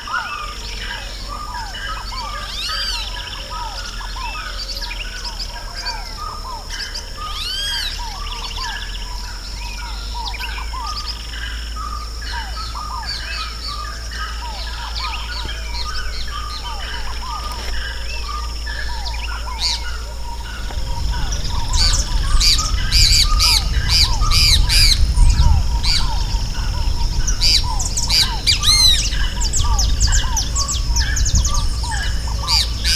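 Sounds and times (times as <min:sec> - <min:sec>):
birds chirping in chorus: 0:00.0 - 0:32.9
loud harsh bird call: 0:00.0 - 0:32.9
low rumble: 0:00.0 - 0:32.9.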